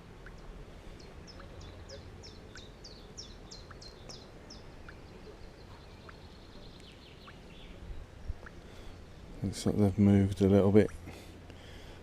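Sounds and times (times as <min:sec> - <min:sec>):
outdoor background noise: 0:00.0 - 0:12.0
songbird chirping and trilling: 0:00.1 - 0:09.8.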